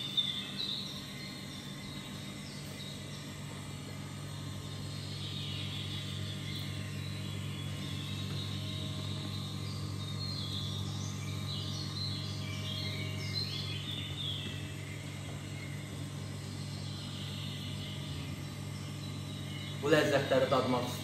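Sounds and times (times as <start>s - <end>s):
room machinery humming: 0.0s - 21.0s.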